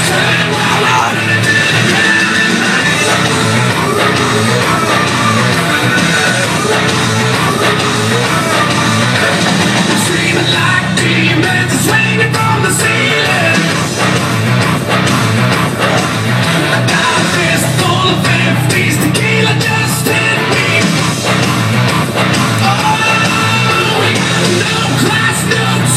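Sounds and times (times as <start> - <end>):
loud rock music with singing: 0.0 - 25.9.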